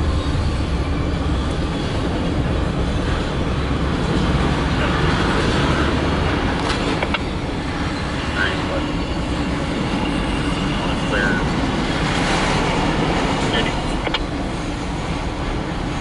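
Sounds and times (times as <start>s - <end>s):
freight cars rumbling on rails: 0.0s - 16.0s.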